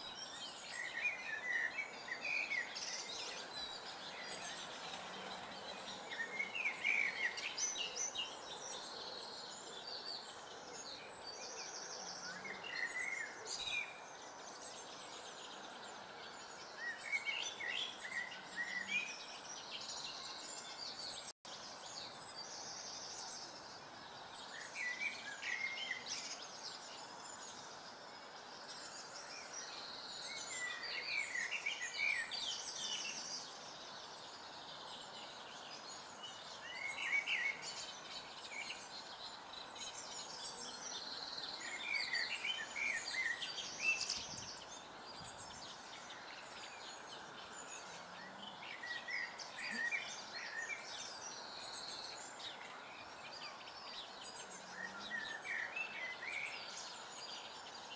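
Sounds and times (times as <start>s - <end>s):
background hiss: 0.0s - 57.9s.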